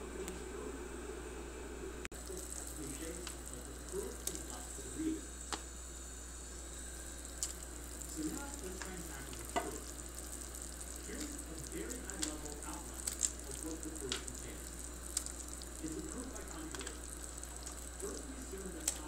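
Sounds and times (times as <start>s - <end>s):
sauce simmering in a pot: 2.1s - 19.0s.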